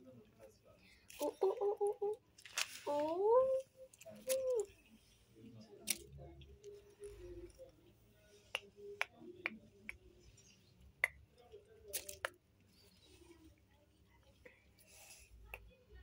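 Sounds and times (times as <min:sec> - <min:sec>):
faint low murmuring voice: 0:00.0 - 0:16.0.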